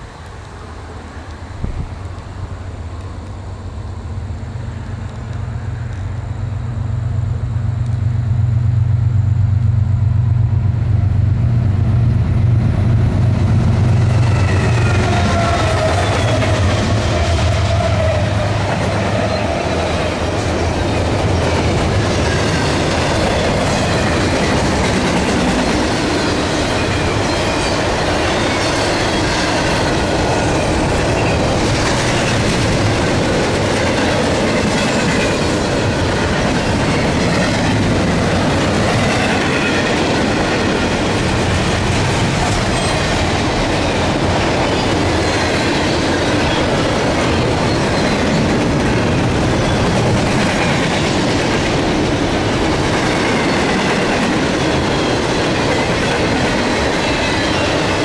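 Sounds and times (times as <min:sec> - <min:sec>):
locomotive engine drone: 0:00.0 - 0:58.0
train cars rolling past: 0:00.0 - 0:58.0.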